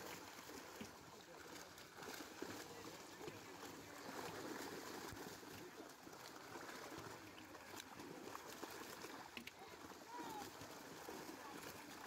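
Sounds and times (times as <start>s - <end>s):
fish splashing in water: 0.0s - 12.0s.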